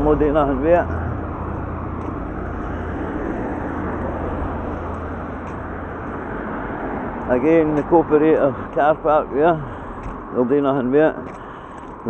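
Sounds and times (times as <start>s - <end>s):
vehicle passing: 0.0s - 12.0s.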